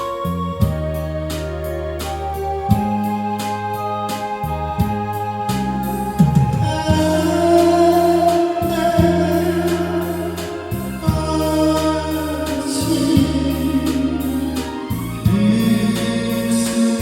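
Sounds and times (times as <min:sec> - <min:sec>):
electronic organ music: 0:00.0 - 0:17.0.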